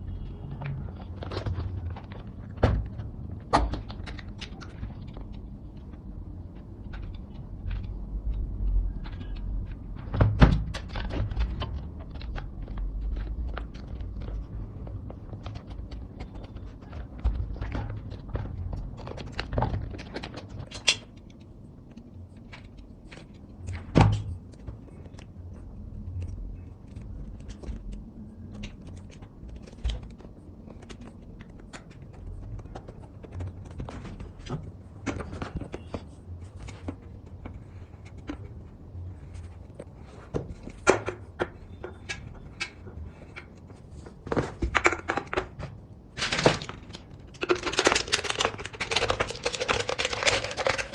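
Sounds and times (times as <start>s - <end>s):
taps clicks and knocks of tools: 0.5s - 45.8s.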